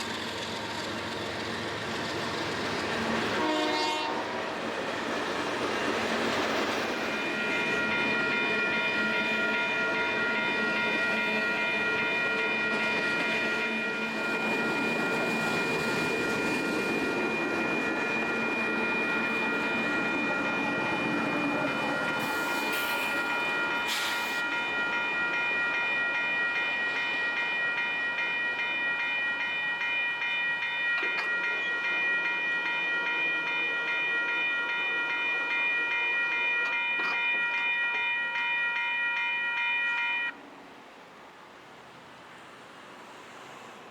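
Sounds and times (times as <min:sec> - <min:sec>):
crossing warning bell ringing: 0:00.0 - 0:04.6, 0:06.0 - 0:40.4
train rumbling past: 0:00.0 - 0:43.9.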